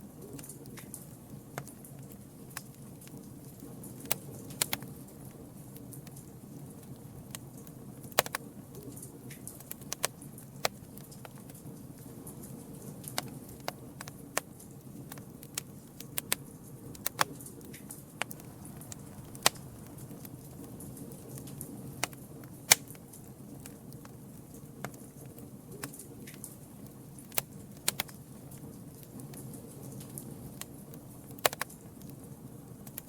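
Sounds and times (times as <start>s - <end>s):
campfire crackling: 0.0s - 33.0s
low rumble of flames: 0.0s - 33.0s.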